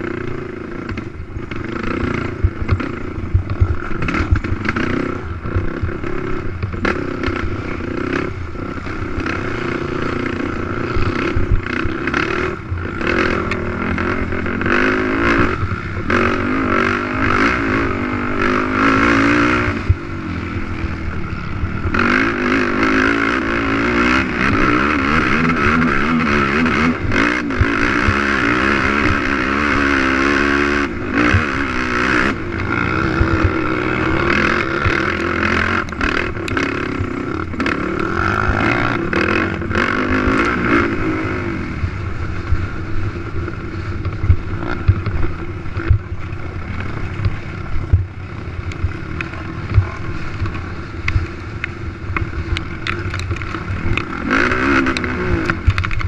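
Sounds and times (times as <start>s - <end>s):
quad engine revving: 0.0s - 51.4s, 52.1s - 56.0s.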